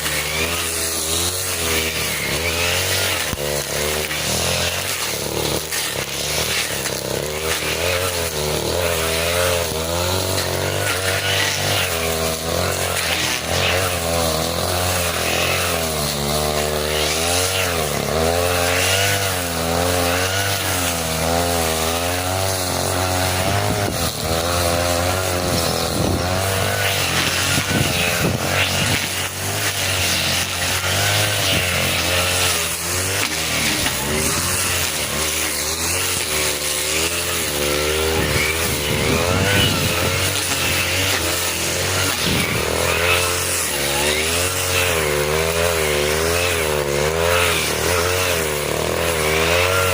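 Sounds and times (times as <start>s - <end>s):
brush cutter engine at high revs: 0.0s - 49.9s.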